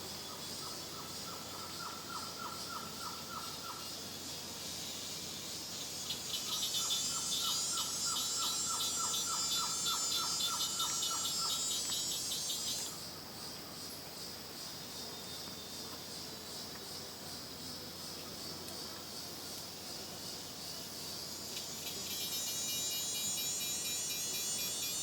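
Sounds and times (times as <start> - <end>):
insect chorus trilling: 0.0 - 25.0.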